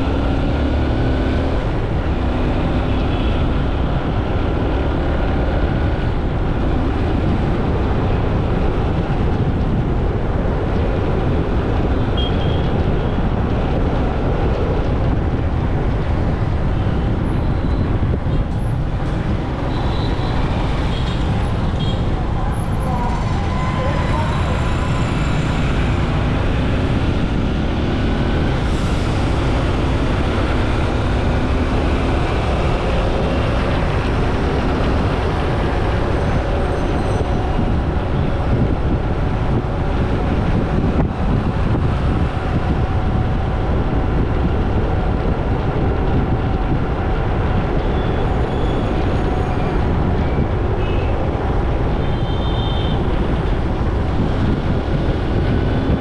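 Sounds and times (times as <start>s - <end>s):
vehicle low rumble: 0.0s - 56.0s.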